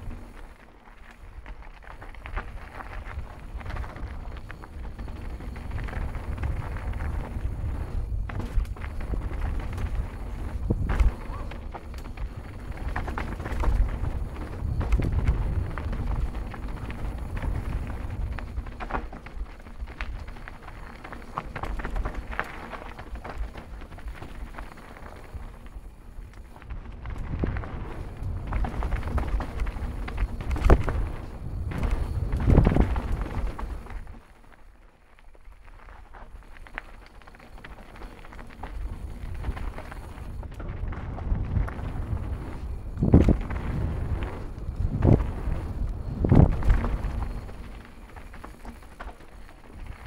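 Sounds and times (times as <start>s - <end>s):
wind rumble on microphone: 0.0s - 34.3s, 35.7s - 50.0s
bike clicks and rattles: 0.0s - 50.0s
bike tyres on dirt and stones: 0.0s - 50.0s.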